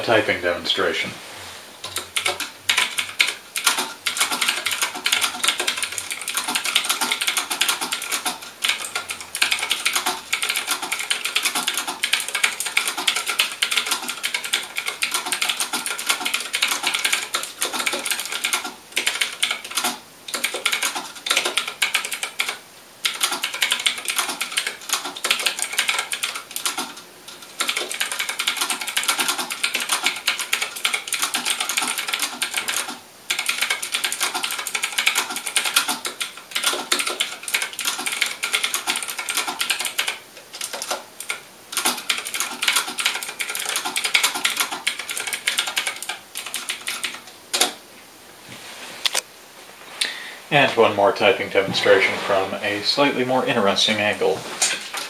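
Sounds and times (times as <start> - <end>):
mechanical keyboard typing: 1.8 - 47.8.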